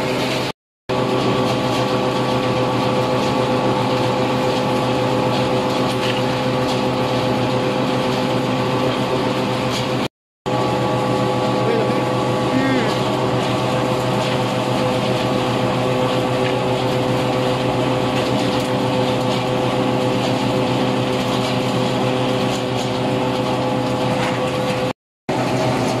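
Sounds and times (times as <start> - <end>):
oil press machine humming: 0.0 - 26.0.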